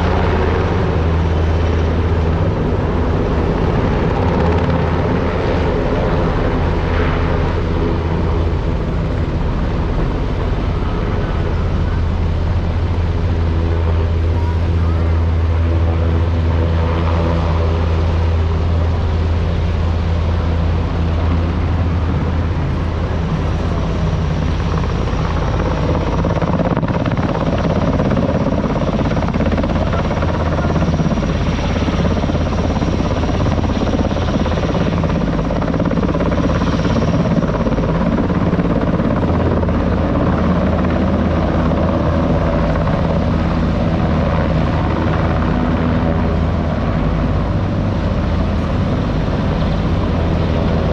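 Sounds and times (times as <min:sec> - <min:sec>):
helicopter rotor drone: 0:00.0 - 0:50.9.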